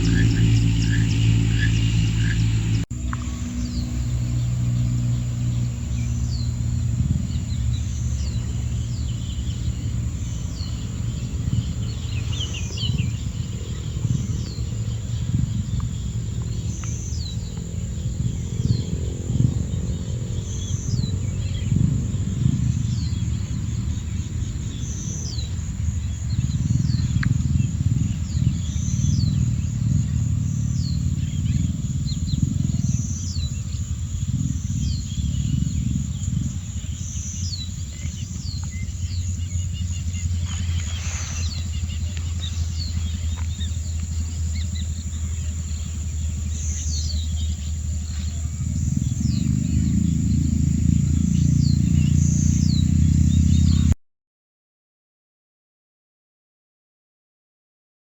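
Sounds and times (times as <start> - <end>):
low rumbling noise: 0.0 - 54.0.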